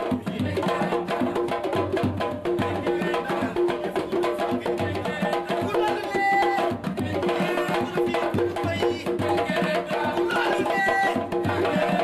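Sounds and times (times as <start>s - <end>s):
drums and percussion rhythm: 0.0s - 12.0s.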